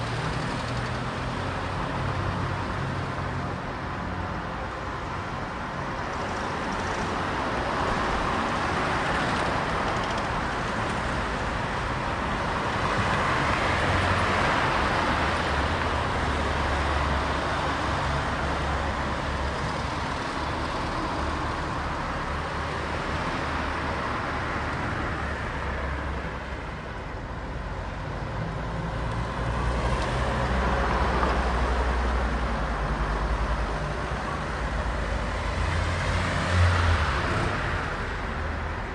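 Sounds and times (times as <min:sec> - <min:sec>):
cars passing: 0:00.0 - 0:38.9.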